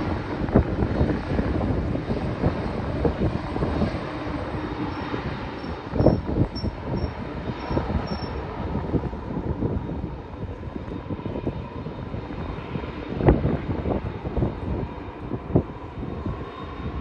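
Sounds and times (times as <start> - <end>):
airliner rolling on runway: 0.0 - 17.0.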